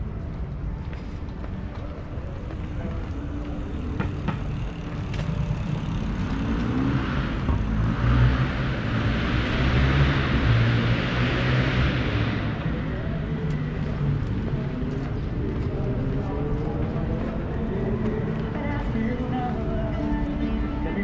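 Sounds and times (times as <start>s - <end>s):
vehicle engine and tyre noise: 0.0s - 21.0s.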